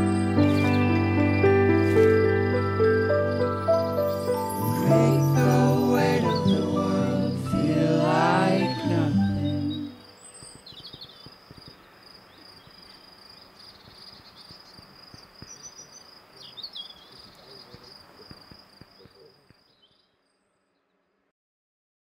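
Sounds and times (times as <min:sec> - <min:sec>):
high insect trill: 0:00.0 - 0:20.4.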